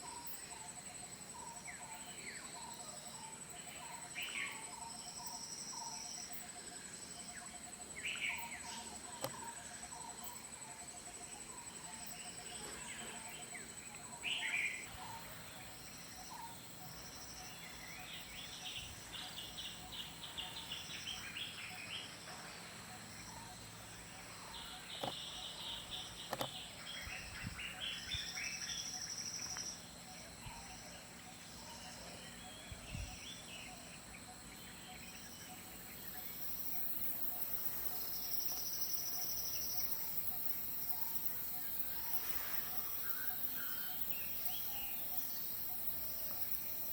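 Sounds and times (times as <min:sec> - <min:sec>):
high-pitched insect tone: 0:00.0 - 0:22.2, 0:22.8 - 0:46.9
birds chirping: 0:00.0 - 0:46.9
insects trilling: 0:00.0 - 0:46.9.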